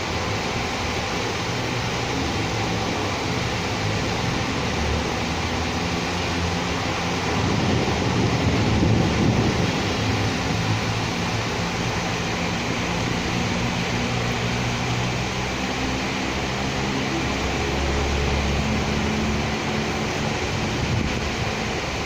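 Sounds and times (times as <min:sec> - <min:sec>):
city traffic engines humming: 0:00.0 - 0:22.0
rain hiss: 0:00.0 - 0:22.0.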